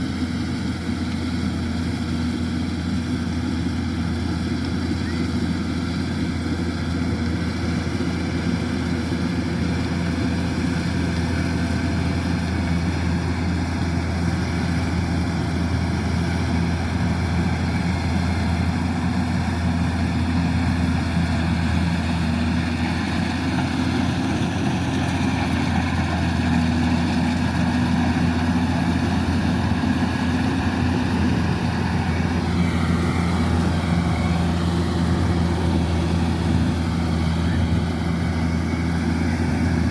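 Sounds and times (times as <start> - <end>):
diesel engine droning: 0.0 - 39.9
machinery noise: 6.0 - 39.9.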